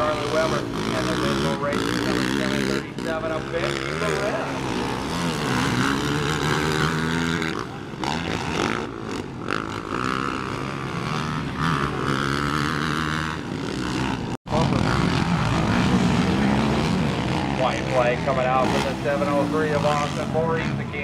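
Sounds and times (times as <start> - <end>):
quad engines revving: 0.0 - 21.0.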